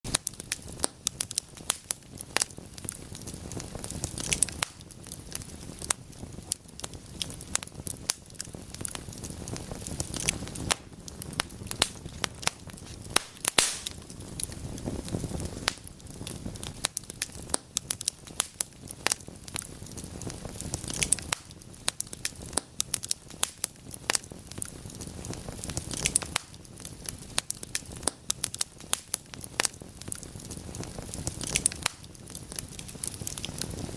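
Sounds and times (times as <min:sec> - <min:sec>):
fire crackling and popping: 0:00.0 - 0:33.9
low rumble of flames: 0:00.1 - 0:33.9.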